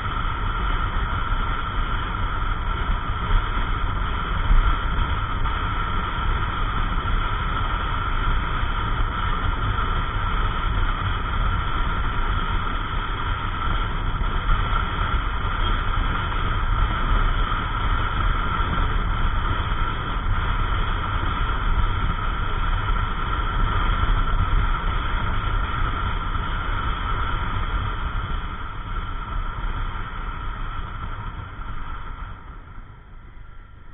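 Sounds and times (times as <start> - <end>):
wind and road noise: 0.0 - 33.9.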